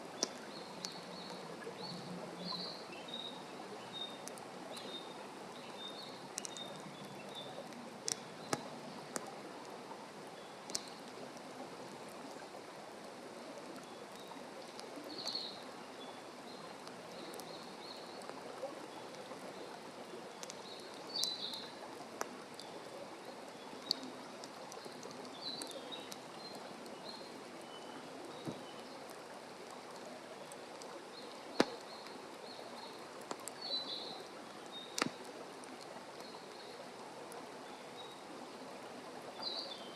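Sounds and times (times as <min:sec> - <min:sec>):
campfire crackling and popping: 0:00.0 - 0:03.0, 0:03.7 - 0:37.4.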